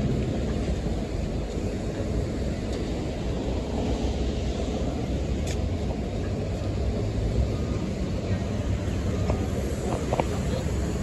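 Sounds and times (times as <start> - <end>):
bus engine idling: 0.0 - 11.0
street traffic: 0.0 - 11.0.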